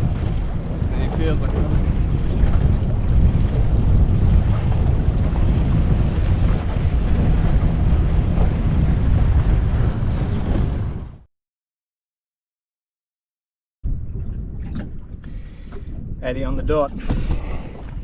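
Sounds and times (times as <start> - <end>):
wind buffeting microphone: 0.0 - 11.3, 13.9 - 18.0.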